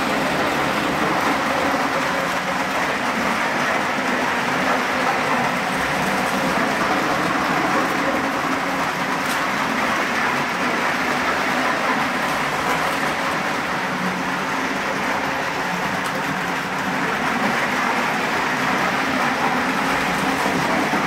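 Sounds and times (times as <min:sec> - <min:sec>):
model trains running: 0:00.0 - 0:21.0.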